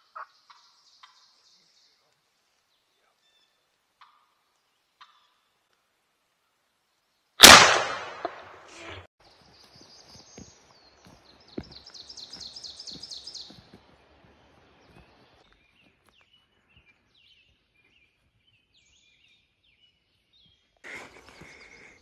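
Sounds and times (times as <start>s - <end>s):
songbirds singing: 0.0s - 5.5s, 9.2s - 22.0s.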